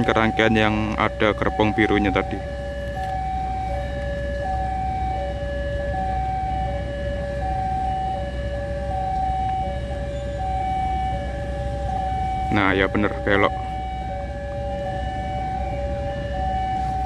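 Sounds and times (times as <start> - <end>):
two-tone crossing warning alarm: 0.0 - 17.0.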